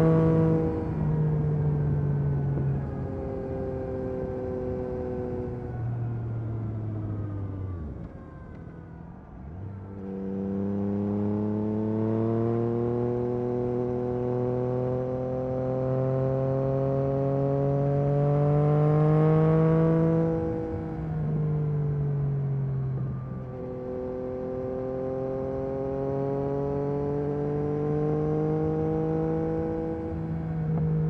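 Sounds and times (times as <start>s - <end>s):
motorcycle engine accelerating: 0.0s - 8.7s, 9.4s - 31.0s.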